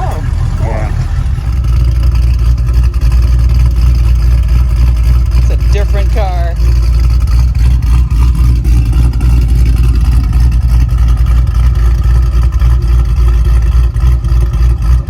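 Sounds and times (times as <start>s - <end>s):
car engine idling with choppy lope: 0.0s - 15.0s.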